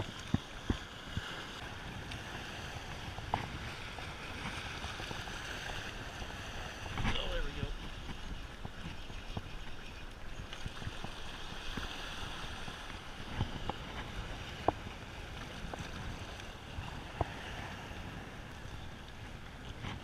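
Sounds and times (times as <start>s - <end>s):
sea water washing against rocks: 0.0s - 20.0s
wind buffeting microphone: 0.0s - 20.0s.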